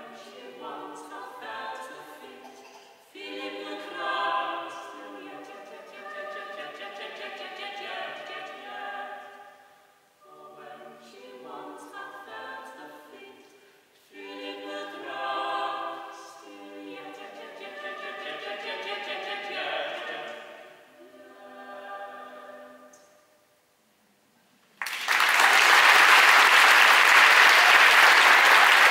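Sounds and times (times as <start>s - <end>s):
mixed vocal quartet singing: 0.0s - 23.2s.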